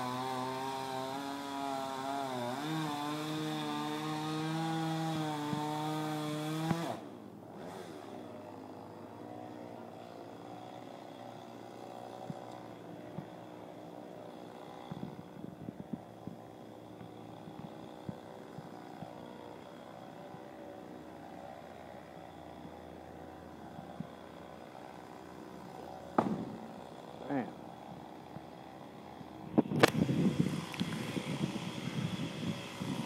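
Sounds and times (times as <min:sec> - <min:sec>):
chainsaw idling: 0:00.0 - 0:33.0.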